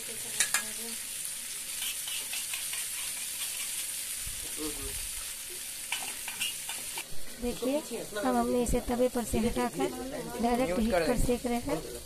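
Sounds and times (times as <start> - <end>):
food sizzling on hot pan: 0.0 - 12.0.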